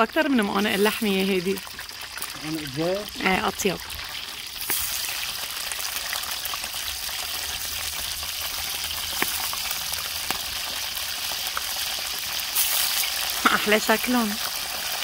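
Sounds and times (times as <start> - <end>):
sausages sizzling in hot oil: 0.0 - 15.0
oil popping: 0.1 - 15.0.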